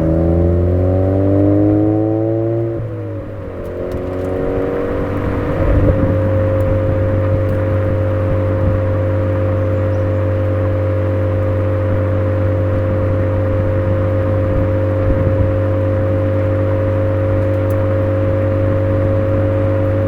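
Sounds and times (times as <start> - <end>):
car engine droning: 0.0 - 20.0
tyre and road noise: 0.0 - 20.0.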